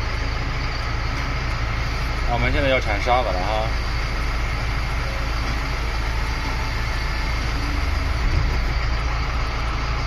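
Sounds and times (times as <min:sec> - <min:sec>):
diesel truck engine drone: 0:00.0 - 0:10.0.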